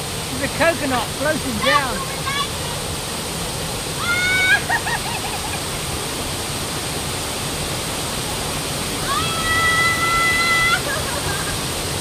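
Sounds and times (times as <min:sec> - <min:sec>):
river water rushing over waterfalls: 0:00.0 - 0:12.0.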